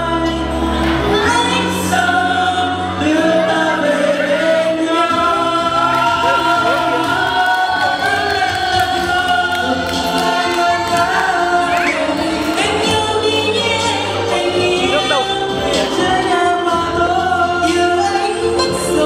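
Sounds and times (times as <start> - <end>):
karaoke backing track: 0.0 - 19.0
man and woman singing duet: 0.0 - 19.0.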